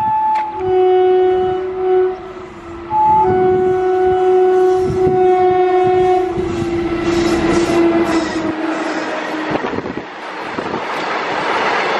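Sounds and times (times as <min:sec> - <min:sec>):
locomotive horn blast: 0:00.0 - 0:09.8
locomotive rumbling and rattling past: 0:00.0 - 0:11.9.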